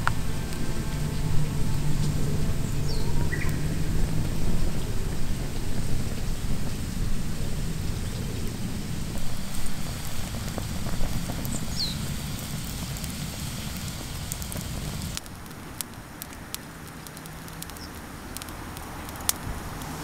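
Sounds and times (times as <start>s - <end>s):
campfire crackling: 0.0s - 20.0s
fire pops and snaps: 0.0s - 20.0s
low rumble: 0.0s - 20.0s.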